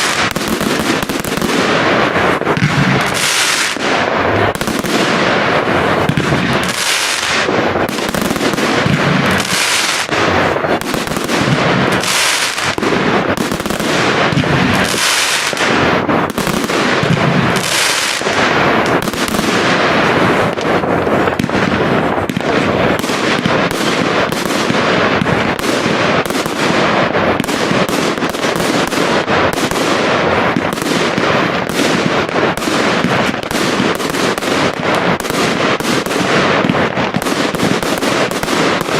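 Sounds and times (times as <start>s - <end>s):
deep fireworks booms: 0.0s - 38.9s
fireworks bursting and crackling: 0.0s - 38.9s.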